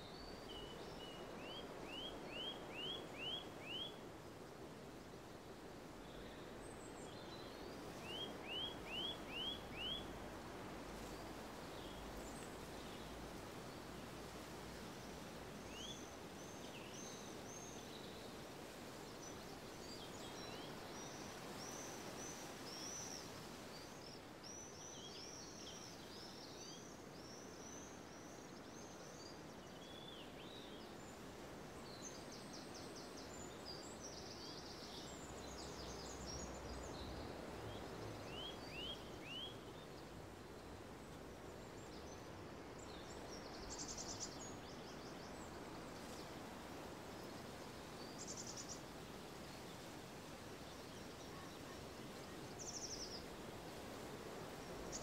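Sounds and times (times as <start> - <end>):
faint background hiss: 0.0 - 55.0.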